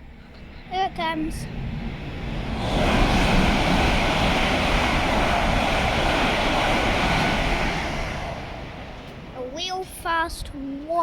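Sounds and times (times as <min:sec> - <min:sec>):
fast train passing: 0:00.0 - 0:11.0.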